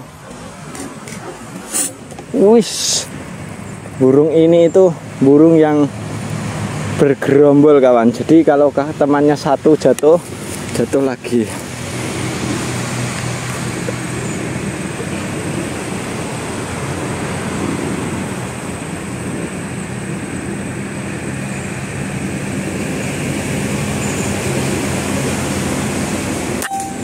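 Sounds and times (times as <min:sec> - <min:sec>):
low engine-like drone: 0:00.0 - 0:27.0.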